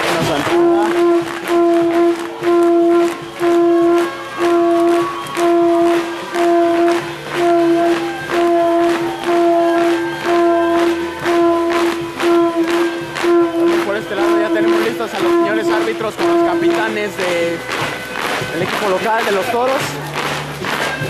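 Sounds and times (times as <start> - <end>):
held horn note: 0.0 - 20.4
brass band playing: 0.0 - 21.0
drum hits: 0.0 - 21.0.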